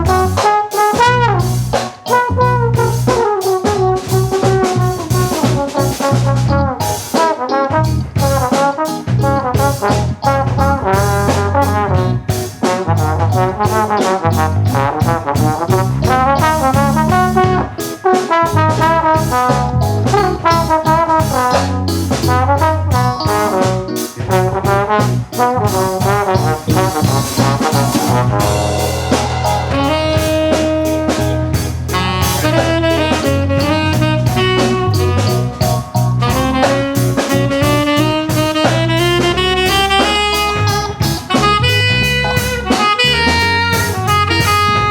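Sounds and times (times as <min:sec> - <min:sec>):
bass: 0:00.0 - 0:44.9
drum kit: 0:00.0 - 0:44.9
trombone: 0:00.0 - 0:44.9
trumpet: 0:00.0 - 0:44.9.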